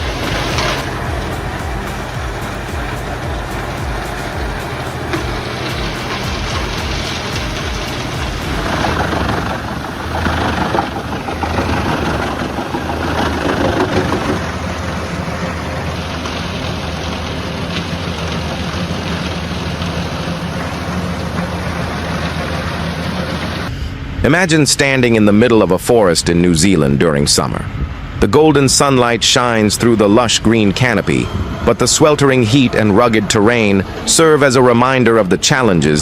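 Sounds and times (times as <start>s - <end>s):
heavy machinery engine running: 0.0s - 25.4s, 27.5s - 36.0s.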